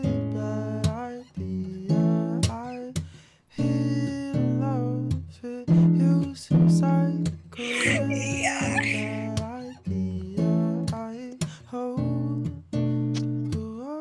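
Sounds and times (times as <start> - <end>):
man singing softly: 0.0 - 12.6, 13.4 - 14.0.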